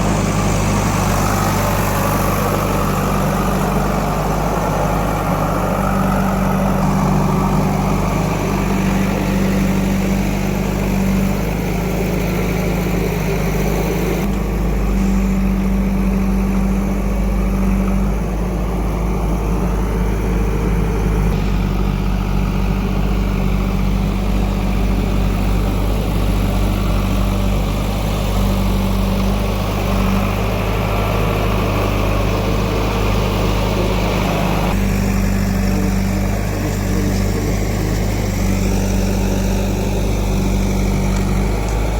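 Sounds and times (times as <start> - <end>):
heavy diesel engine humming: 0.0 - 41.9.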